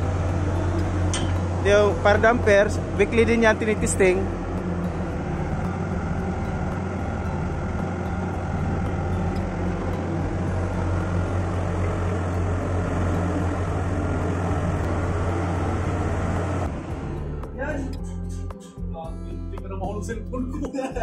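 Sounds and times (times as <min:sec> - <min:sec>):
machinery humming: 0:00.0 - 0:18.5
ventilation fans rushing air: 0:00.0 - 0:18.5.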